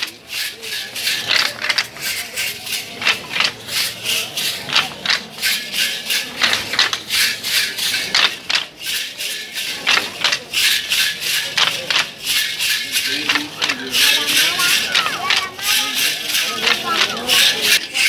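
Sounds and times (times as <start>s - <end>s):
handheld rattles shaken rhythmically: 0.0s - 18.0s.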